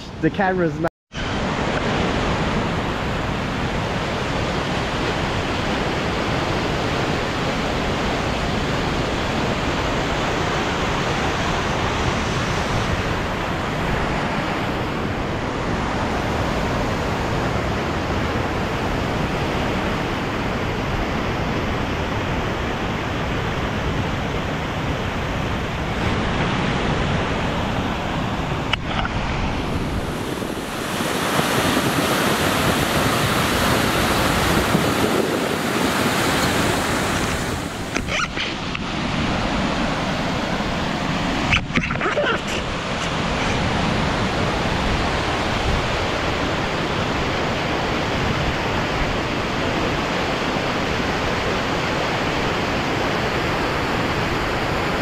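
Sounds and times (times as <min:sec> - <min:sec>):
river rushing: 0:00.4 - 0:55.0.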